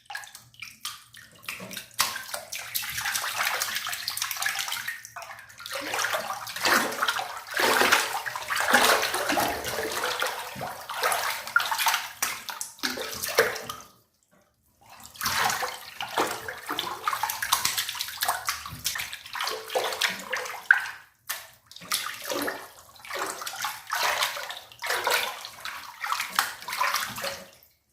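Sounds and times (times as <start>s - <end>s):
water splashing in a bathtub: 0.0s - 27.9s.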